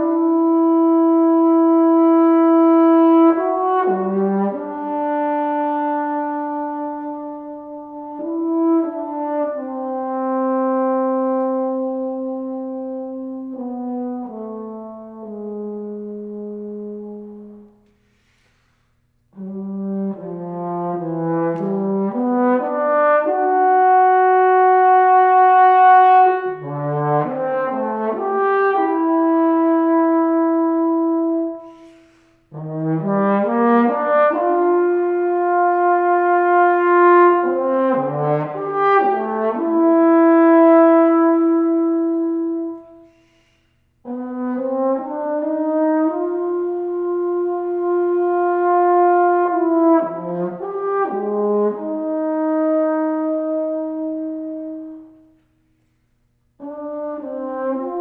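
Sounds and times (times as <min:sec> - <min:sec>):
french horn playing: 0:00.0 - 0:18.6, 0:19.2 - 0:58.0.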